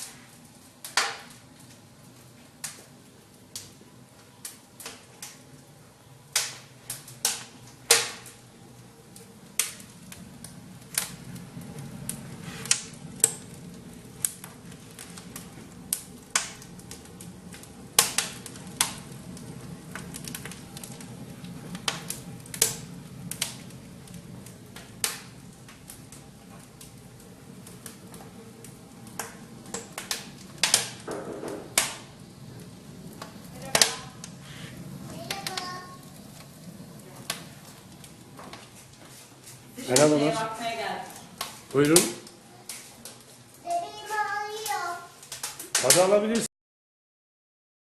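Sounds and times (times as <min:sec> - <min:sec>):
wood fire crackling: 0:00.0 - 0:46.5.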